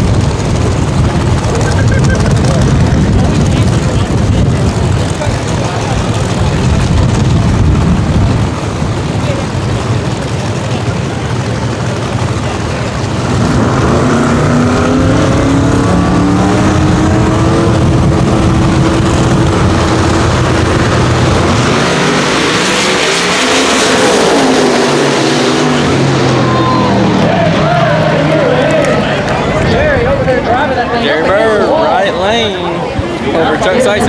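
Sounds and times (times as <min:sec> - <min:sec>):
race car engines at full throttle: 0:00.0 - 0:34.0.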